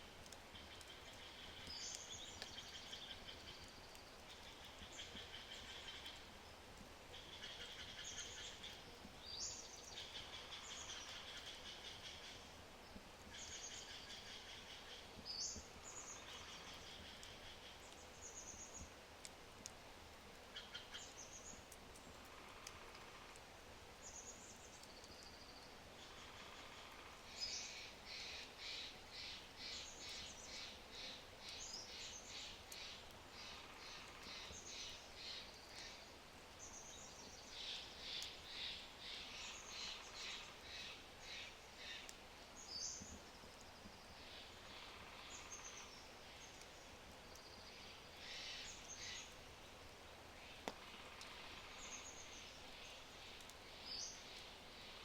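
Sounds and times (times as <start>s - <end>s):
faint steady hiss: 0.0s - 55.0s
wood fire crackle: 0.0s - 55.0s
songbird singing: 0.2s - 19.0s, 20.4s - 55.0s.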